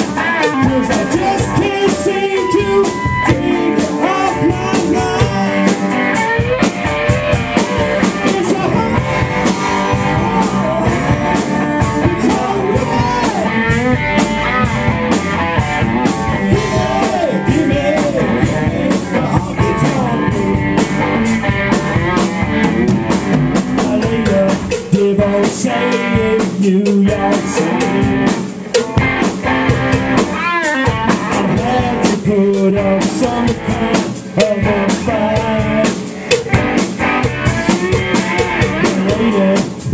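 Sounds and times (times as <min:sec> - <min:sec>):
drum kit beating: 0:00.0 - 0:39.9
electric guitars: 0:00.0 - 0:39.9.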